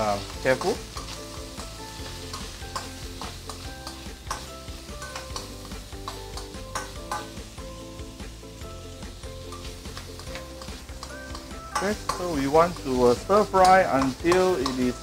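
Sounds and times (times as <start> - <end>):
background music: 0.0 - 15.0
meat sizzling in a wok: 0.0 - 15.0.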